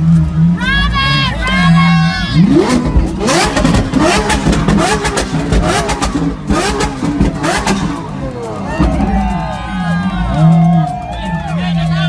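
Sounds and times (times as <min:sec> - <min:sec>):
car engine revving: 0:00.0 - 0:12.0
exhaust cracks and pops: 0:00.0 - 0:12.0.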